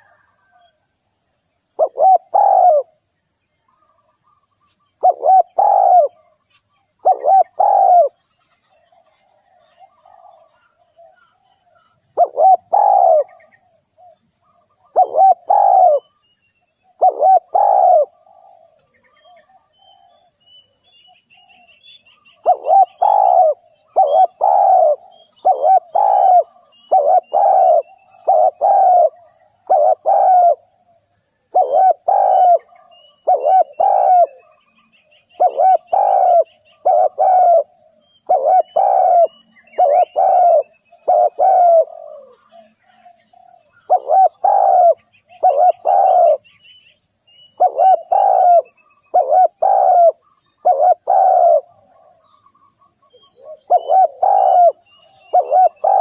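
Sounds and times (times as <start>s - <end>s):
dove cooing: 0.0s - 0.8s, 1.7s - 3.0s, 5.0s - 6.4s, 7.0s - 8.2s, 8.8s - 16.2s, 16.9s - 20.4s, 22.2s - 46.5s, 47.5s - 52.4s, 53.1s - 56.0s
small birds chirping: 1.6s - 56.0s.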